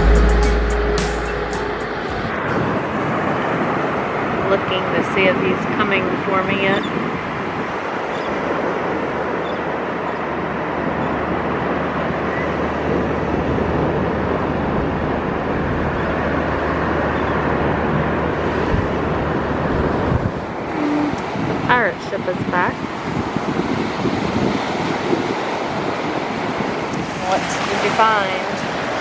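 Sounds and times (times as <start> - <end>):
surf washing onto beach: 1.6 - 29.0.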